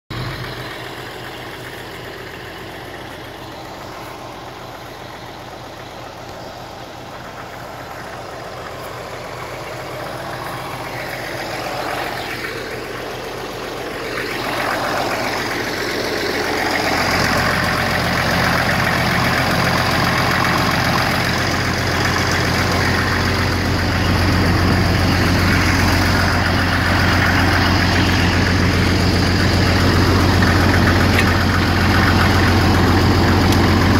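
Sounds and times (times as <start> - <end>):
tractor engine idling: 0.1 - 33.9.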